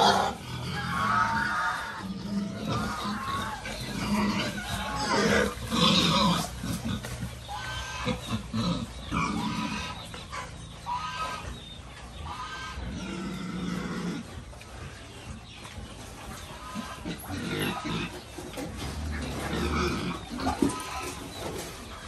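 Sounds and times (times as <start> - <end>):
pigs grunting: 0.0 - 22.0
young pigs squealing: 0.0 - 22.0.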